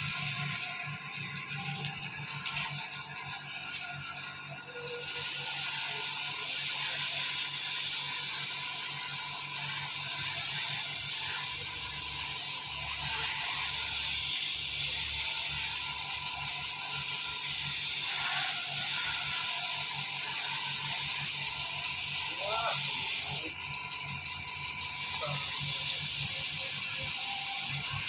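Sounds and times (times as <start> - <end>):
welding arc hissing: 0.0 - 28.0.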